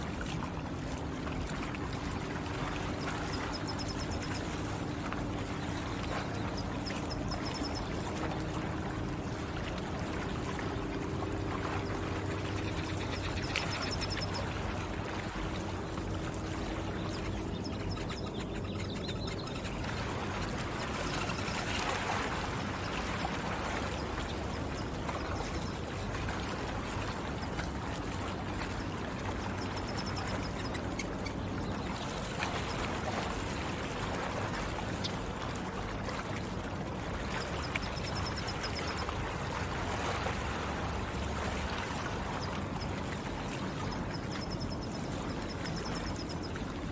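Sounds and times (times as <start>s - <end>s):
low steady hum: 0.0s - 46.9s
water lapping on stony shore: 0.0s - 46.9s.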